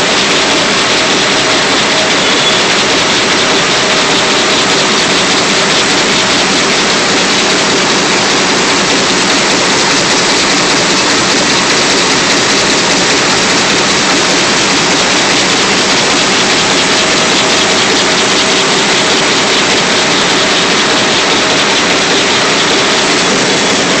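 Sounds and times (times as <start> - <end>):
printing press machine din: 0.0 - 24.0.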